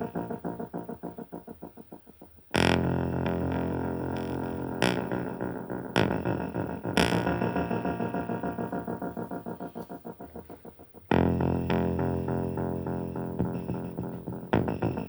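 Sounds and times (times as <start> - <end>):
sustained synthesizer chords: 0.0 - 15.0.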